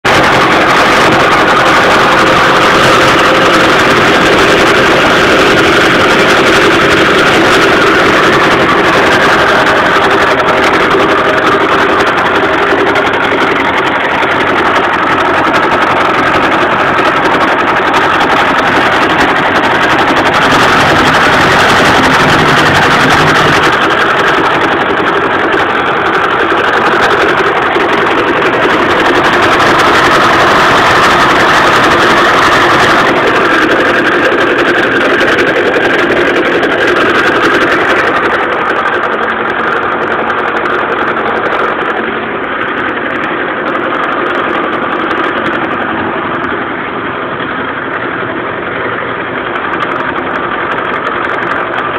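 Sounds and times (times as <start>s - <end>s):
milling machine cutting steel: 0.1s - 46.5s.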